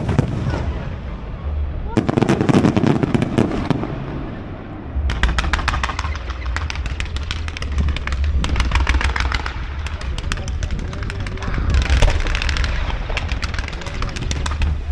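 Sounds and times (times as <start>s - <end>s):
fireworks crackling: 0.0s - 14.9s
low rumble: 0.0s - 14.9s.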